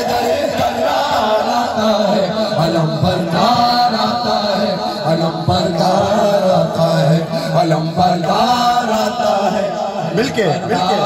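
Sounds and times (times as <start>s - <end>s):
voices chanting a lament: 0.0s - 11.0s.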